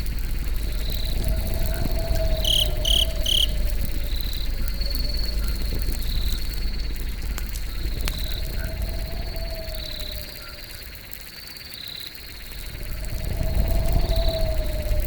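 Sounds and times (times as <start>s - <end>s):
steady low rumble: 0.0s - 10.2s, 12.4s - 15.0s
campfire crackle: 0.0s - 15.0s
crickets chirping: 0.0s - 15.0s.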